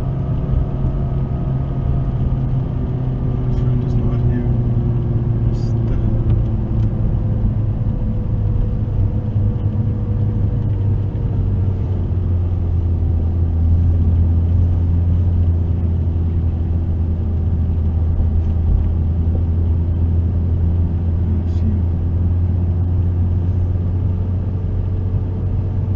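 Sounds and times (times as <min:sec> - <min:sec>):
car engine low drone: 0:00.0 - 0:25.9.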